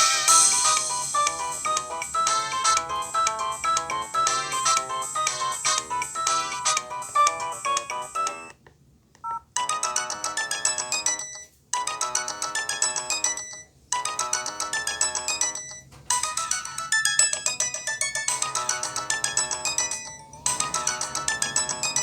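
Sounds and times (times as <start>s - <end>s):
phone ringtone melody: 0.0s - 8.6s, 9.2s - 22.0s.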